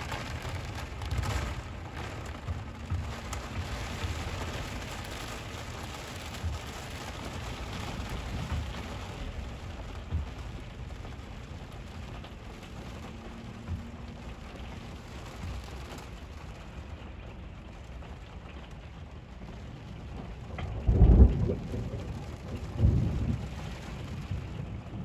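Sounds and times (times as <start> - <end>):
heavy rain pouring: 0.0 - 25.0
low rumble: 0.0 - 25.0.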